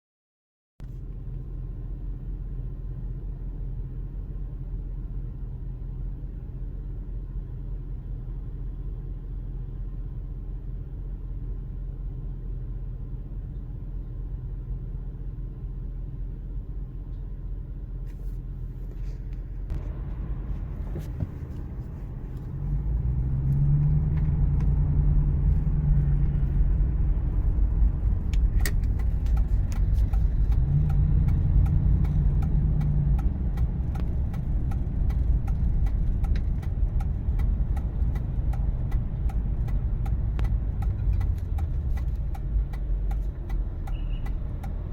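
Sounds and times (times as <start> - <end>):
road traffic rumble: 0.8 - 44.9.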